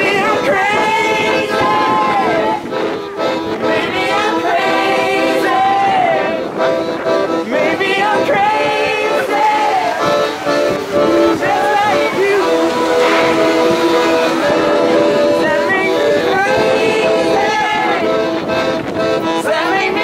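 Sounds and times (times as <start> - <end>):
accordion chords: 0.0 - 20.0
people singing together: 0.0 - 20.0.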